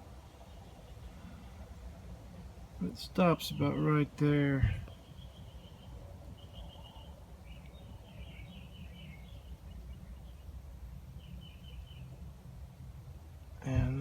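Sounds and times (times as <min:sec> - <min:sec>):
birds chirping: 0:00.0 - 0:14.0
low steady rumble: 0:00.0 - 0:14.0.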